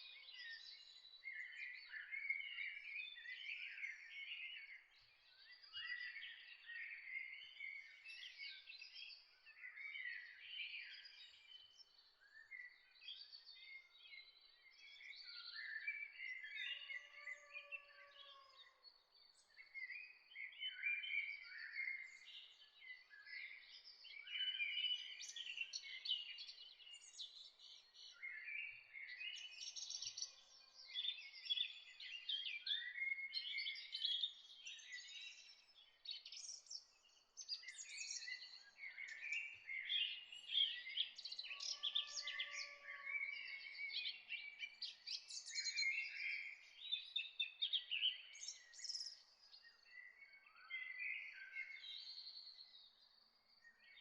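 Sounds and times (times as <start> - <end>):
birds singing: 0.0 - 54.0.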